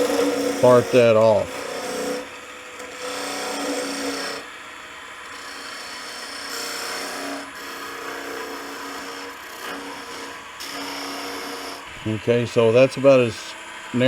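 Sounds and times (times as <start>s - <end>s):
lathe humming: 0.0s - 14.0s
lathe tool scraping wood: 0.0s - 14.0s.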